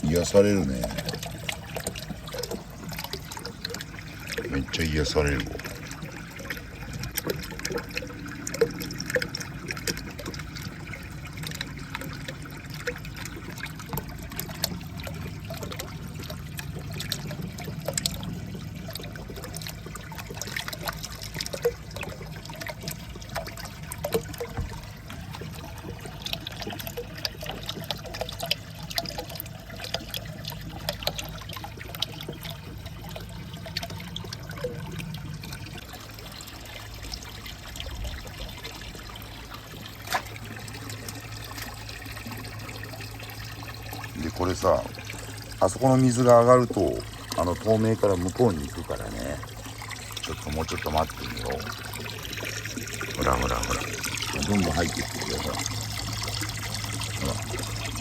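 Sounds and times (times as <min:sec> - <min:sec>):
water running along a course: 0:00.0 - 0:58.0.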